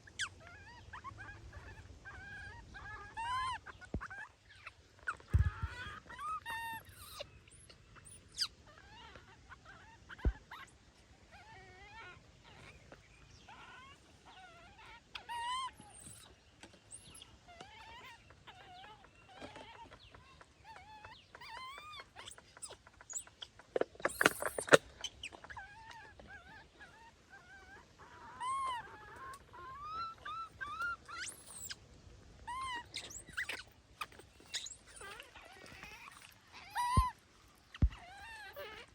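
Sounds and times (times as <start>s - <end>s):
baby monkeys crying: 0.0s - 10.7s, 13.5s - 23.4s, 24.0s - 31.8s, 32.4s - 38.9s.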